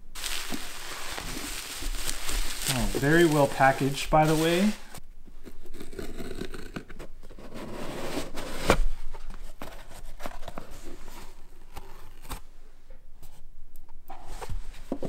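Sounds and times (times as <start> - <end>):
cardboard and foam rustling: 0.0 - 12.4.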